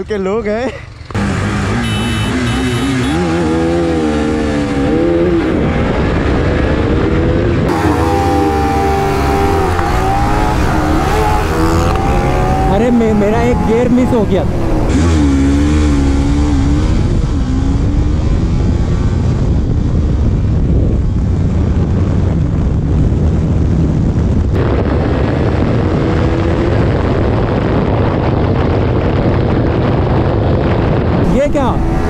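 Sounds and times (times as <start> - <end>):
motorcycle engine running: 0.9 - 32.0
wind rushing: 3.2 - 32.0.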